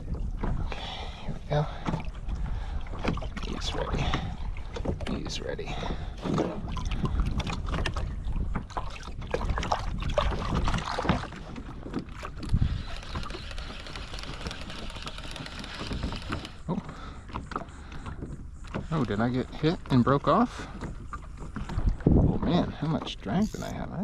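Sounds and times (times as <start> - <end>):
wind on microphone: 0.0 - 16.9, 20.7 - 24.0
water splashes: 0.0 - 24.0.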